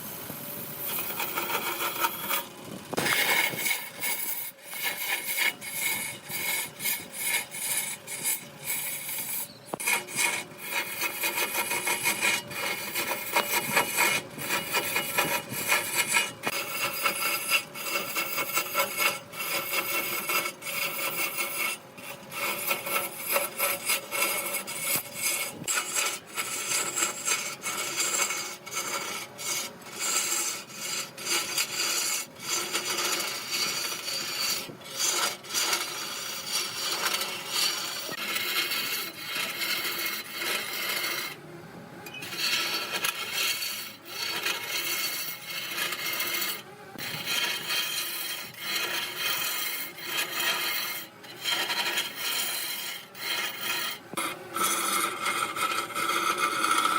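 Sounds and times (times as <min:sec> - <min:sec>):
lathe hum: 0:00.0 - 0:56.9
lathe tool scraping wood: 0:00.0 - 0:56.9.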